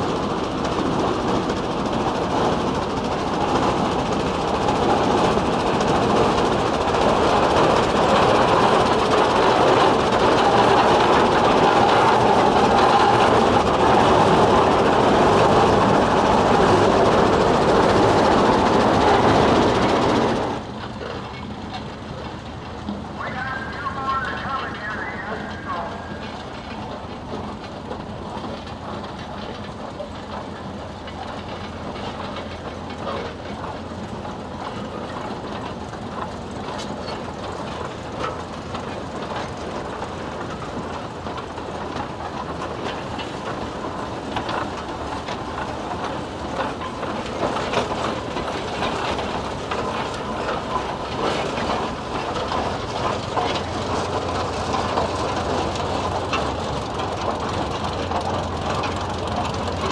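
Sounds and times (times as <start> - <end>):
steam traction engine clattering: 0.0 - 59.9.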